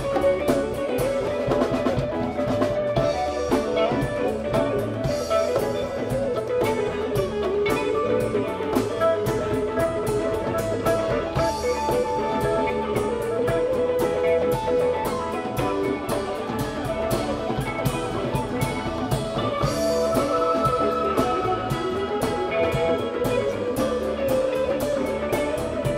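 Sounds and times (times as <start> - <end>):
bass: 0.0 - 25.9
congas: 0.0 - 25.9
drum kit: 0.0 - 25.9
electric guitar lines: 0.0 - 25.9.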